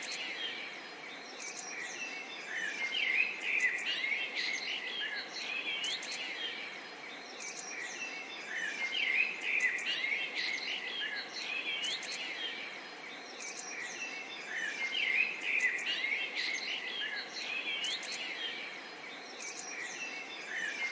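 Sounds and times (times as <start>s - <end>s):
small birds chirping: 0.0s - 20.9s
steady background hiss: 0.0s - 20.9s.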